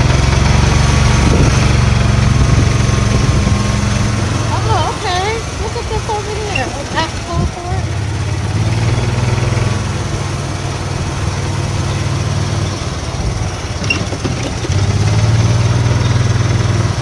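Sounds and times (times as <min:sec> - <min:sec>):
golf cart engine humming: 0:00.0 - 0:17.0.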